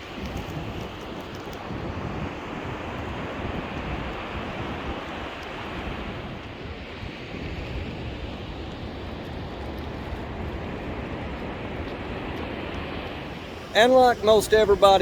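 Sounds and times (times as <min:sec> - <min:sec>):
ocean surf washing onto beach: 0:00.0 - 0:15.0
wind rumbling on microphone: 0:00.0 - 0:15.0.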